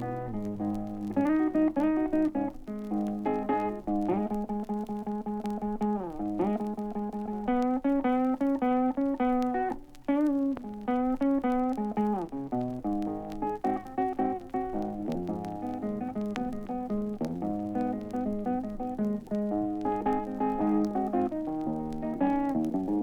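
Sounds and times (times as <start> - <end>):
blues guitar solo: 0.0 - 23.0.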